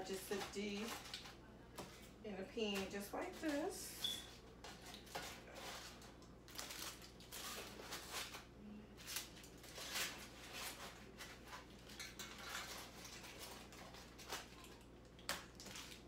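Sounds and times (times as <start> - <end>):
aluminium foil crinkling: 0.0 - 16.0.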